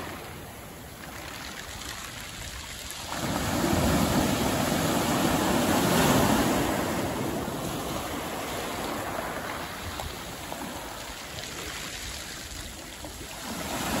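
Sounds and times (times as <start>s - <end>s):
waves washing over pebbles: 0.0s - 14.0s.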